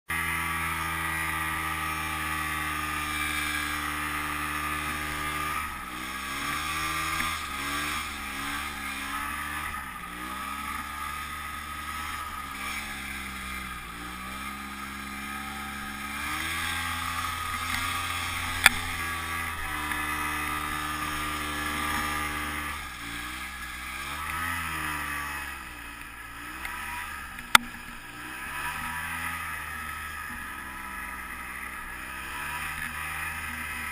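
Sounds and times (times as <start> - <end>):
snowmobile engine revving: 0.1 - 33.9.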